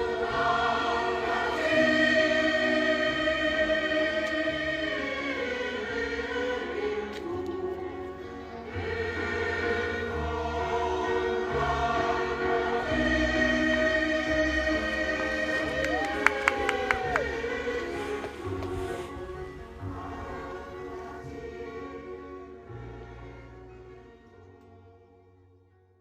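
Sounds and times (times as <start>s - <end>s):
choir singing held chords: 0.0s - 25.3s.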